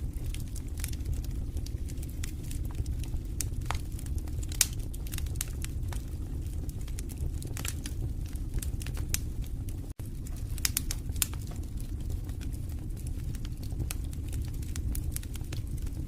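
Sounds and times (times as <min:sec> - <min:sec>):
fire low rumble: 0:00.0 - 0:16.0
wood fire crackling and popping: 0:00.0 - 0:16.0.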